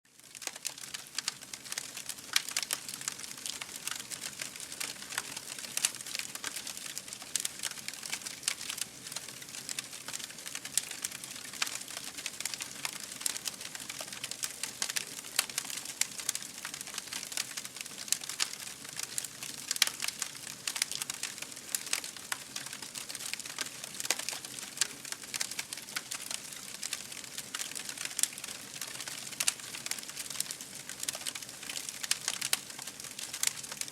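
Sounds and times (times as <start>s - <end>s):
wood fire crackling and popping: 0.2s - 33.9s.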